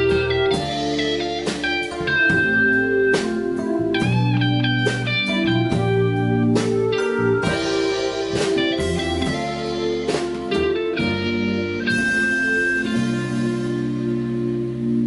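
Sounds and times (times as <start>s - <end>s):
electric guitar melody: 0.0s - 15.0s
sustained bass notes: 0.0s - 15.0s.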